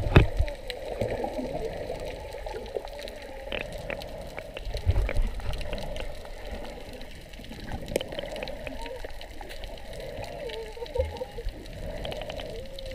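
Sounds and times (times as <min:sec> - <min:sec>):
muffled underwater water rush: 0:00.0 - 0:12.9
small clicks and crackles: 0:00.0 - 0:12.9.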